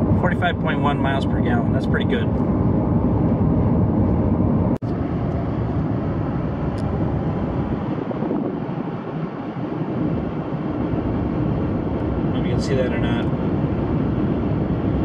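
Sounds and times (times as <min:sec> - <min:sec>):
road and wind noise in car: 0:00.0 - 0:15.0.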